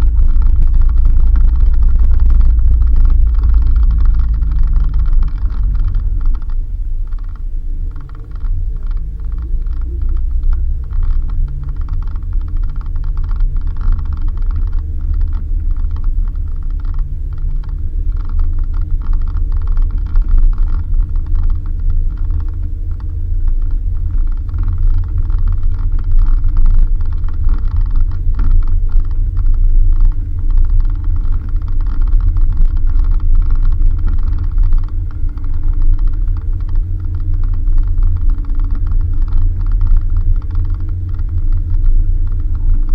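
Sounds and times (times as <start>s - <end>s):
car engine and road rumble: 0.0s - 42.9s
rapid rattles and clicks: 0.0s - 42.9s.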